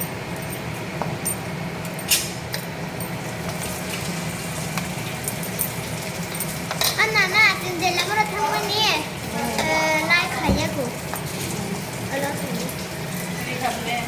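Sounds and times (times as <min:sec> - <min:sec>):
kitchen utensils clinking: 0:00.0 - 0:14.0.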